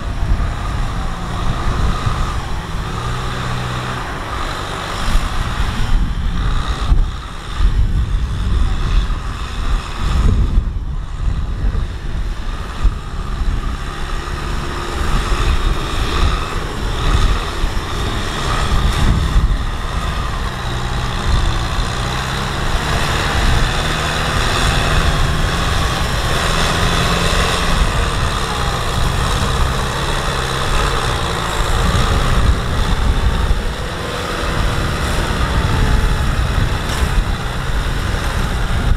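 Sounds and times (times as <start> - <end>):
tractor diesel engine under load: 0.0 - 38.9
wind buffeting microphone: 0.0 - 38.9.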